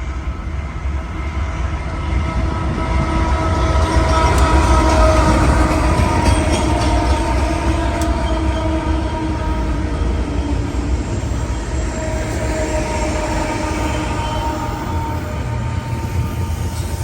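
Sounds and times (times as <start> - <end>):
rail cars rumbling on track: 0.0 - 17.0.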